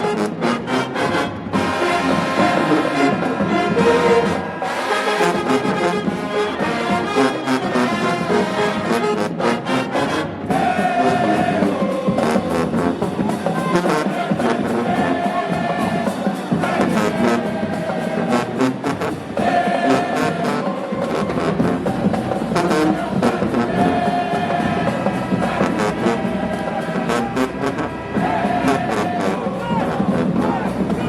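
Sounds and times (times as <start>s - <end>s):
brass band playing: 0.0s - 31.0s
drums: 0.0s - 31.0s
trombones and trumpets: 0.0s - 31.0s.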